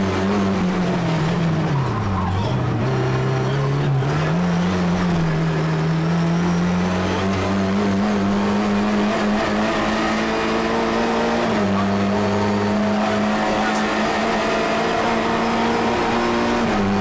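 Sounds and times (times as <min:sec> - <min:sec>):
rally car engine under load: 0:00.0 - 0:17.0.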